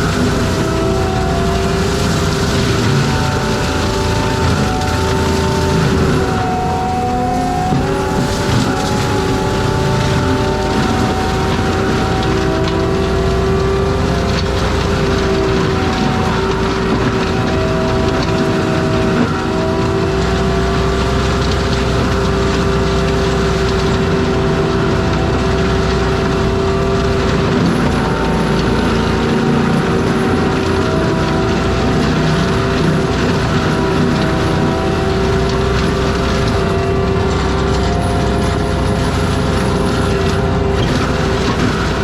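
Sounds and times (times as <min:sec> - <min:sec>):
diesel engine and mulcher running: 0:00.0 - 0:42.0
sustained whine: 0:00.0 - 0:42.0.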